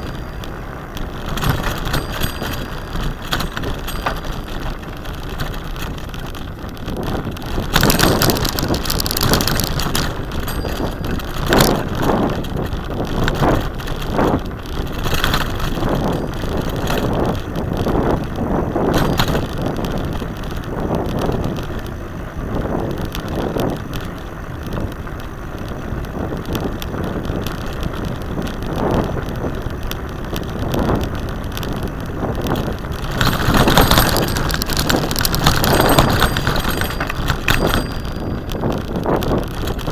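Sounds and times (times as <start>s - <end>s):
bicycle tyre noise on dirt: 0.0s - 39.9s
bike knocking and rattling: 0.0s - 39.9s.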